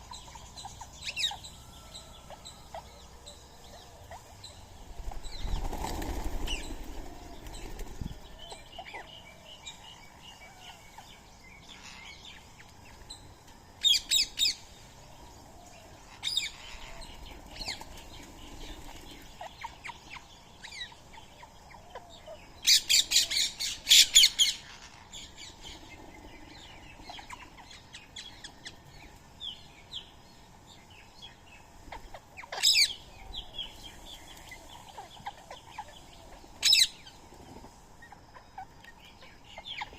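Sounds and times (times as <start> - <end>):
background bird chirping: 0.0 - 39.9
harsh bird calls: 0.0 - 39.9.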